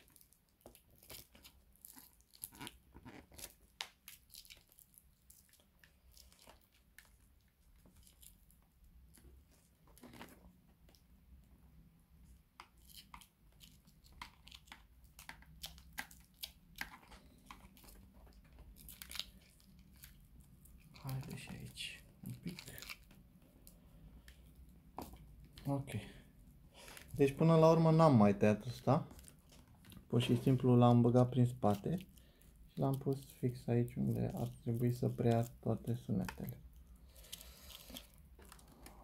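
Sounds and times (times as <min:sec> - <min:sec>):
rustling and clicking of cable: 0:00.0 - 0:11.2, 0:12.2 - 0:26.0, 0:28.6 - 0:39.0.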